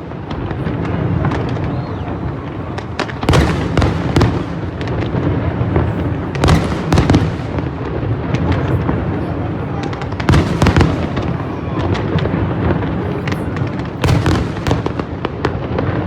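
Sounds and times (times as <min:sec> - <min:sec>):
fireworks bursting: 0:00.0 - 0:16.0
sharp firework cracks and bangs: 0:00.0 - 0:16.0.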